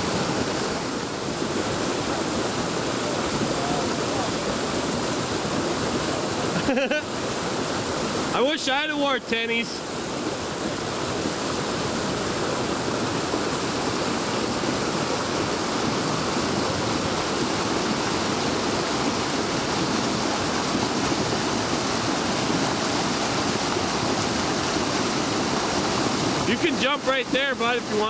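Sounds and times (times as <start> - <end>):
river rapids rushing over rocks: 0.0 - 28.0.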